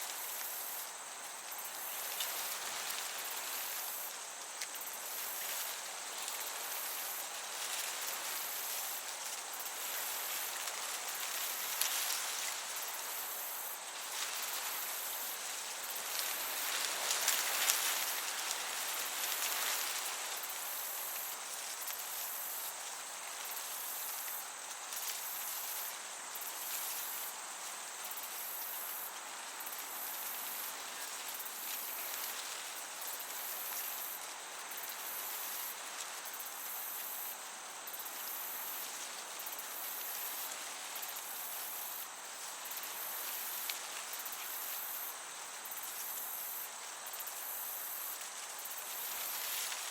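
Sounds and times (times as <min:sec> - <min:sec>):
breeze hiss: 0:00.0 - 0:49.9
crickets chirping: 0:00.0 - 0:49.9.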